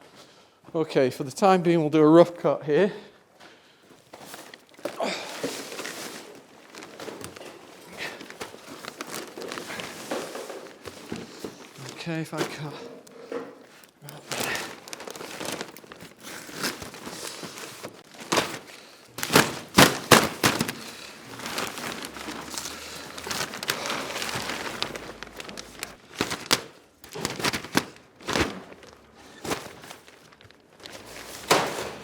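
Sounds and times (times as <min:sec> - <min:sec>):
plastic sheeting crinkling: 0:04.0 - 0:32.0.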